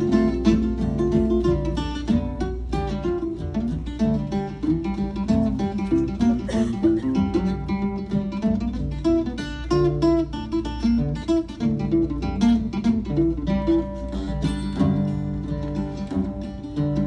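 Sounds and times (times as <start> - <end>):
picked guitar notes: 0.0 - 17.0.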